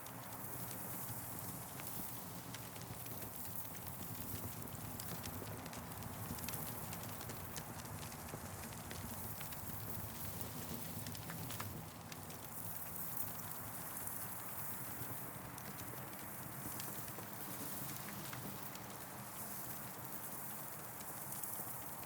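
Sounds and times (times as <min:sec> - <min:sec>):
campfire crackling and popping: 0:00.2 - 0:22.0.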